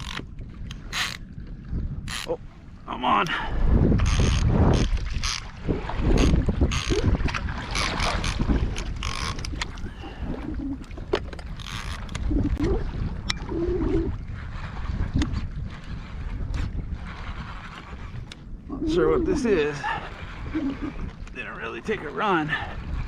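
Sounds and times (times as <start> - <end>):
water splashing against kayak: 0.0 - 23.0
wind rumbling on microphone: 0.0 - 23.0.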